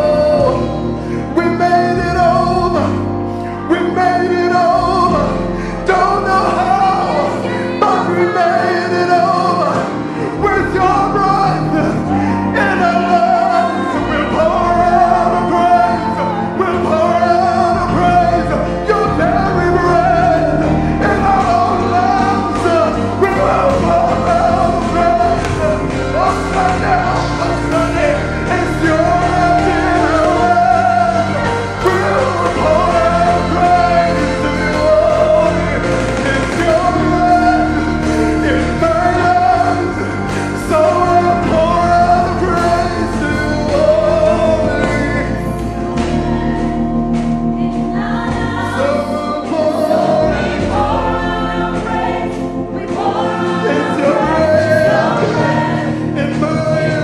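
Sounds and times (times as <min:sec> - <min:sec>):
man singing into a microphone: 0:00.0 - 0:47.0, 0:47.6 - 0:57.0
backing singers: 0:00.0 - 0:57.0
band playing worship music: 0:00.0 - 0:57.0.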